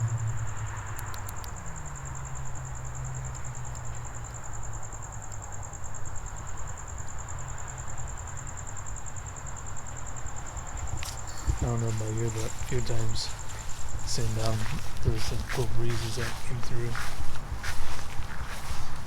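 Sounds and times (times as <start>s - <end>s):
crickets chirring: 0.0s - 19.0s
low traffic hum: 0.0s - 19.0s.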